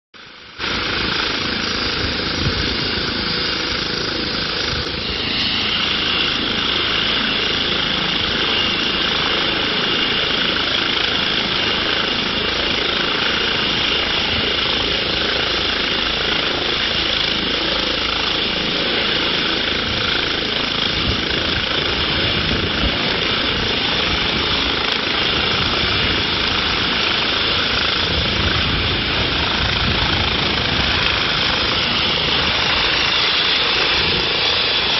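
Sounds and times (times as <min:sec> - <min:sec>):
helicopter rotor and turbine noise: 0:00.2 - 0:34.9
high whine: 0:00.2 - 0:34.9.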